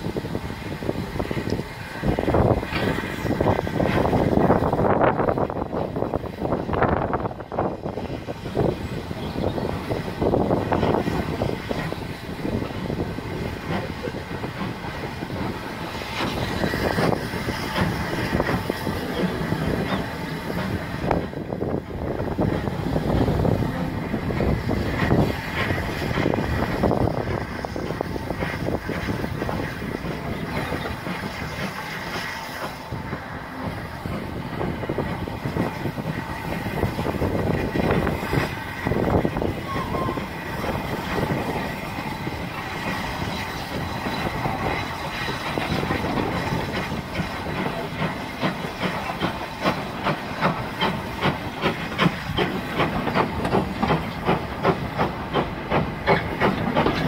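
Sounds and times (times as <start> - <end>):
steam hiss: 0.0 - 57.0
steam train running past: 0.0 - 57.0.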